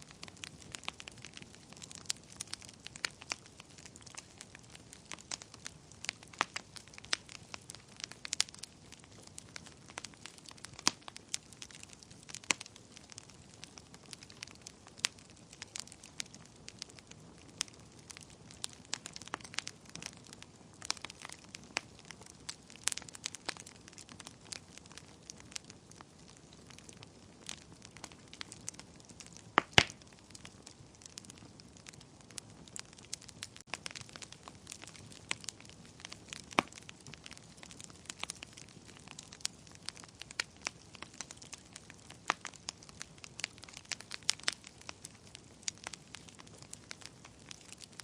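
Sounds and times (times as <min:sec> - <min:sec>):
soft hiss of flames: 0:00.0 - 0:48.0
wood fire crackling and popping: 0:00.0 - 0:48.0.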